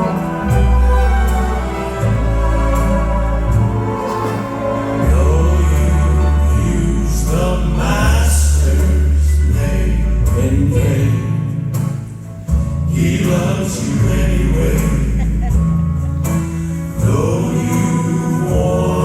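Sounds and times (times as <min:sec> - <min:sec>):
voices singing in harmony: 0:00.0 - 0:11.9, 0:12.9 - 0:15.6, 0:16.9 - 0:19.0
bass-heavy accompaniment: 0:00.0 - 0:19.0.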